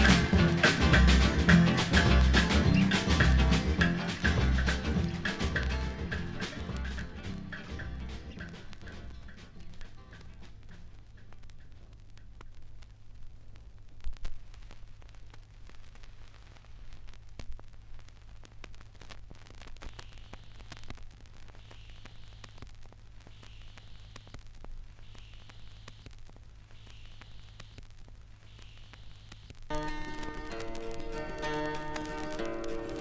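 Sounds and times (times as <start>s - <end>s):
soft hiss: 0.0s - 33.0s
vinyl crackle and clicks: 0.0s - 33.0s.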